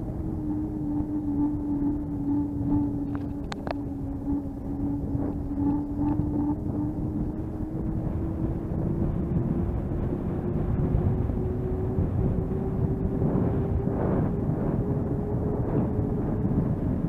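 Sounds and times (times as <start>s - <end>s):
hum rising in pitch: 0.0s - 17.0s
road rumble on asphalt: 0.0s - 17.0s
wind rushing over microphone: 0.0s - 17.0s.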